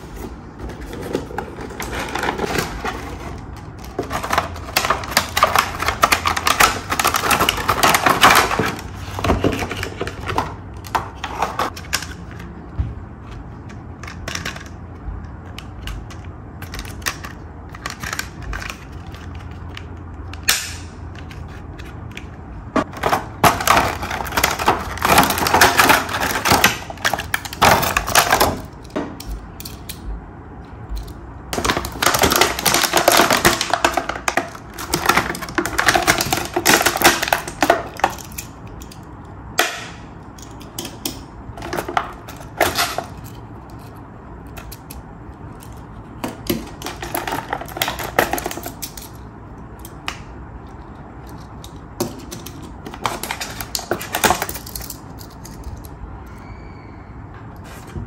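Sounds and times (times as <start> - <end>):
plastic track pieces clicking: 0.9 - 12.3, 13.6 - 30.1, 30.8 - 56.4.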